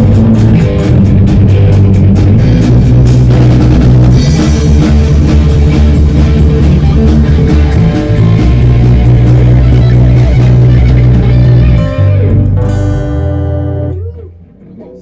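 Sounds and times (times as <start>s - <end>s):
drum kit beat: 0.0s - 14.3s
bass guitar: 0.0s - 15.0s
electric guitar: 0.0s - 15.0s.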